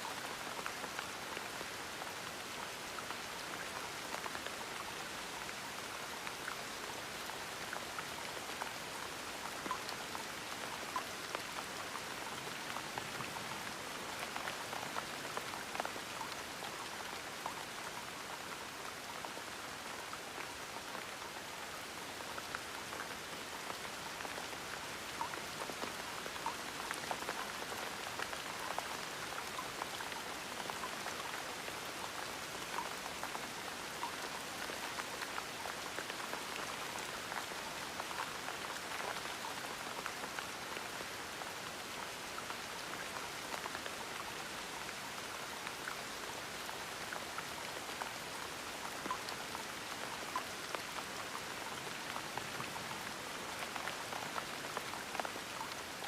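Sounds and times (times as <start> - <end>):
gentle rain: 0.0 - 56.0
raindrops pattering: 0.0 - 56.0.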